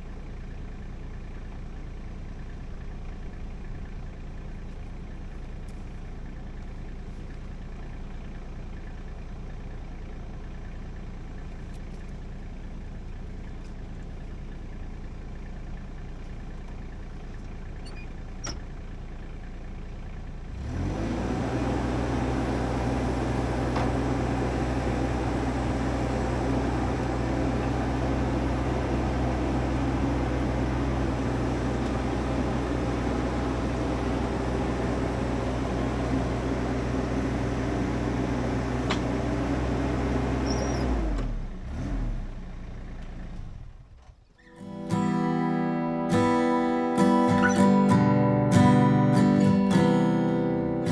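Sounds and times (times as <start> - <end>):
engine idling and revving: 0.0 - 50.9.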